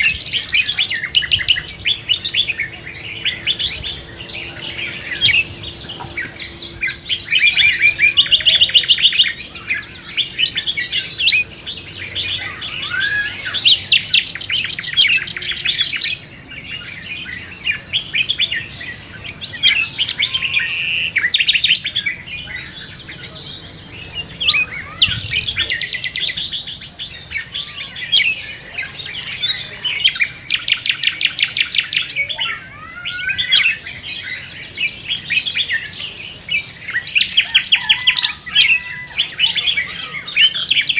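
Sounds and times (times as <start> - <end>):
fast bird trills: 0.0 - 40.9
songbirds singing and chirping: 0.0 - 40.9.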